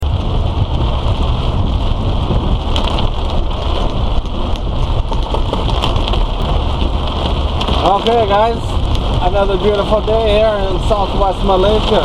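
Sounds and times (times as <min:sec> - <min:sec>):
heavy rain on a car: 0:00.0 - 0:12.0
low rumble of moving vehicle: 0:00.0 - 0:12.0.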